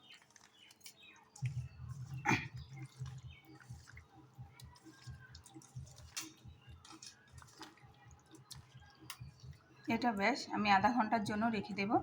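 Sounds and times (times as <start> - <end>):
wet squelching of raw chicken: 0.0 - 10.0.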